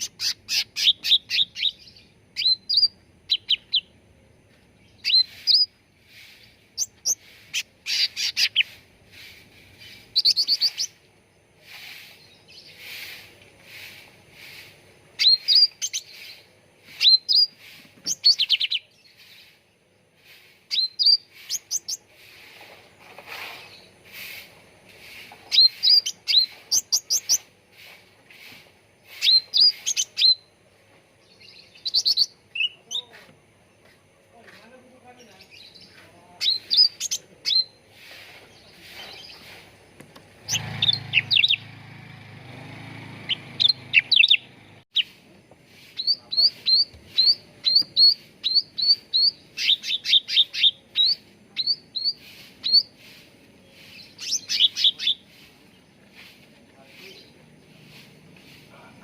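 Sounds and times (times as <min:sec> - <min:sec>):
soft bird chattering: 0:00.0 - 0:03.9, 0:04.8 - 0:11.0, 0:11.6 - 0:19.6, 0:20.2 - 0:22.6, 0:23.6 - 0:30.5, 0:31.4 - 0:33.3, 0:35.2 - 0:39.7, 0:43.3 - 0:45.2, 0:45.8 - 0:59.0
bird chirping phrases: 0:00.0 - 0:59.0.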